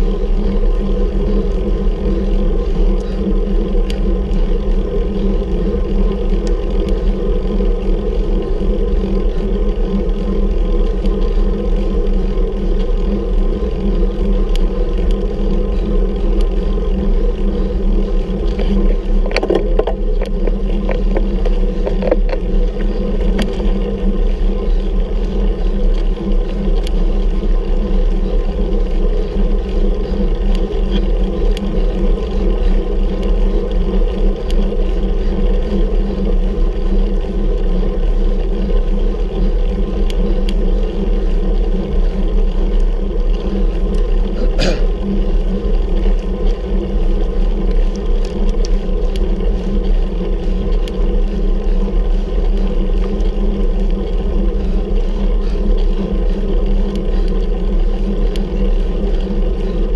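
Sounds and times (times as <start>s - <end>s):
wind and road noise rumbling: 0.0s - 59.9s.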